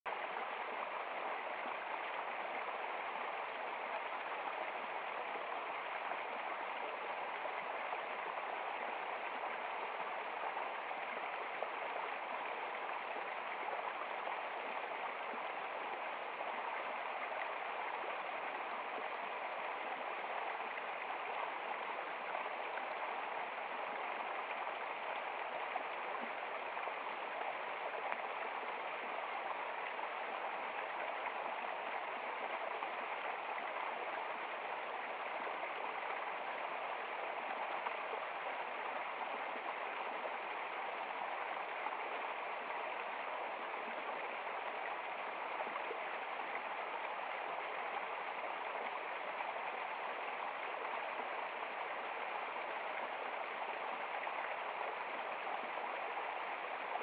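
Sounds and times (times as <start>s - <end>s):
stream flowing over rocks: 0.1s - 57.0s.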